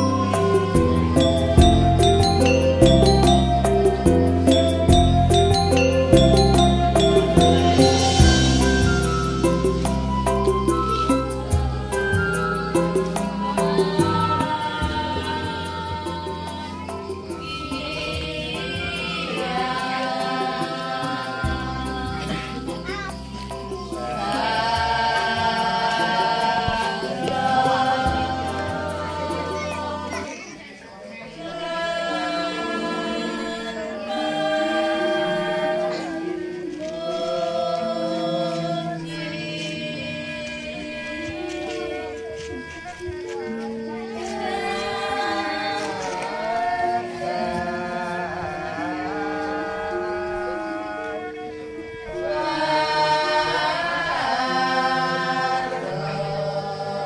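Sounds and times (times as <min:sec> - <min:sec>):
group singing devotional chant: 0:11.1 - 0:57.0.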